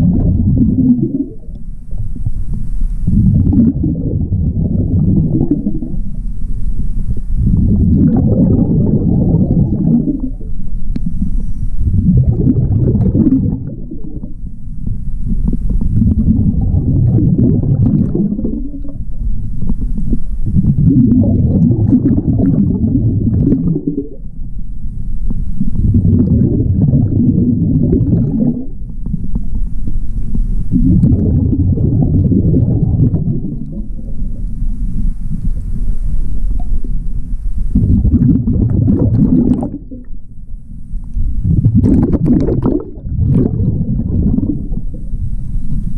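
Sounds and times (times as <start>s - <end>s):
diver exhaling bubbles underwater: 0.0s - 2.4s, 3.0s - 6.2s, 7.2s - 24.3s, 25.6s - 29.4s, 30.7s - 35.6s, 37.7s - 40.2s, 41.4s - 45.9s.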